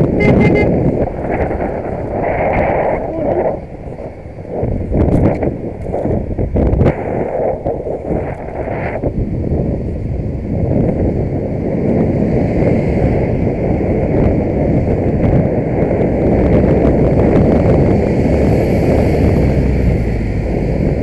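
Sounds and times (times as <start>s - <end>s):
bus engine rumble: 0.0s - 21.0s
passing traffic: 0.0s - 21.0s
wind buffeting microphone: 0.0s - 21.0s.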